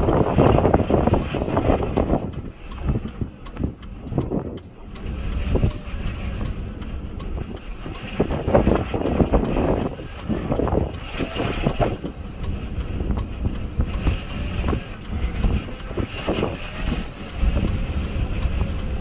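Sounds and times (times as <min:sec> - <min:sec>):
road and engine rumble: 0:00.0 - 0:19.0
wind buffeting: 0:00.0 - 0:19.0.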